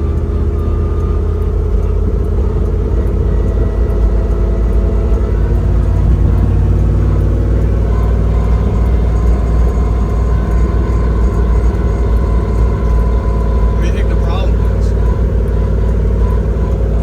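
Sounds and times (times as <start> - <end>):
thin steady whine: 0.0 - 17.0
truck engine rumble: 0.0 - 17.0.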